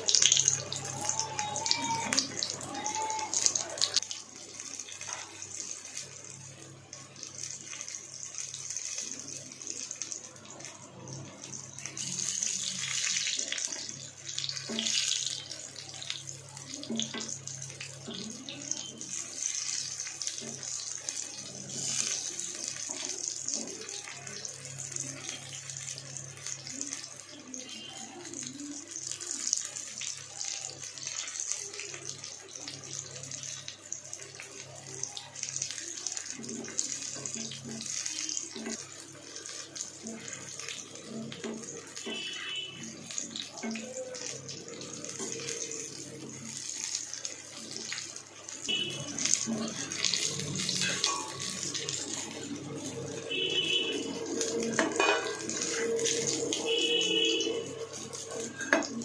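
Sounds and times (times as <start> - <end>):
food deep-frying in oil: 0.0 - 59.0.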